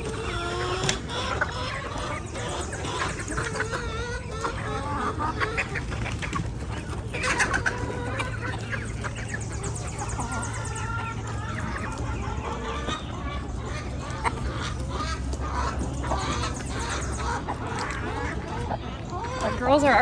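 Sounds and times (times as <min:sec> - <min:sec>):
chickens clucking: 0:00.0 - 0:20.0
steady low hum: 0:00.0 - 0:20.0.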